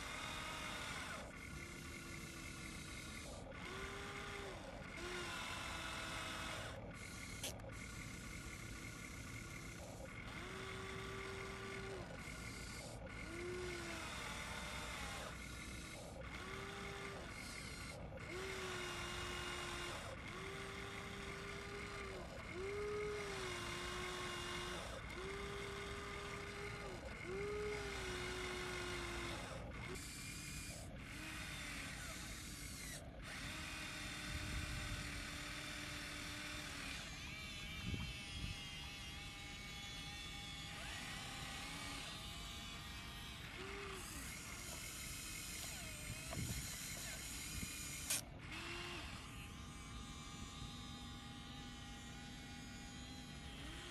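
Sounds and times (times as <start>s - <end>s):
small electric motors whining: 0.0s - 53.9s.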